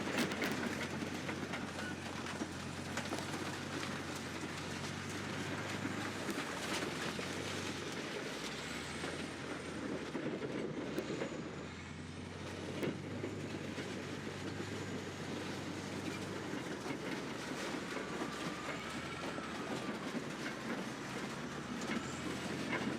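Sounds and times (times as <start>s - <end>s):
bulldozer diesel engine running: 0.0s - 22.9s
tracks clanking: 0.0s - 22.9s.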